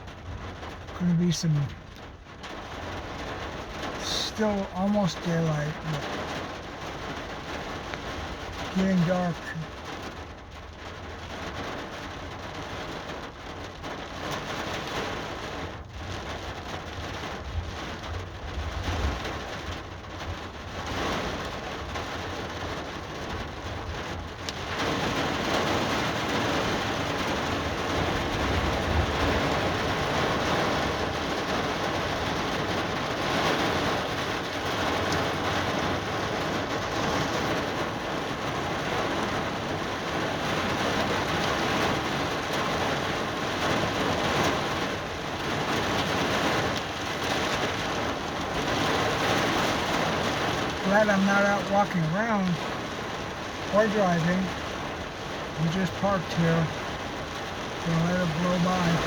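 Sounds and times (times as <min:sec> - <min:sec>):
rain: 0:00.0 - 0:59.0
wind: 0:00.0 - 0:59.0.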